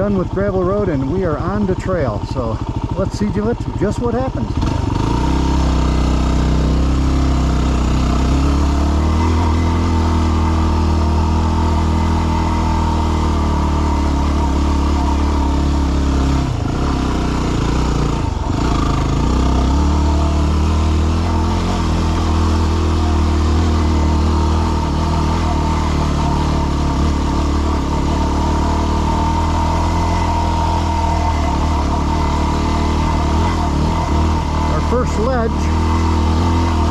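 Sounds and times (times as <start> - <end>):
motorcycle engine at low revs: 0.0 - 36.9.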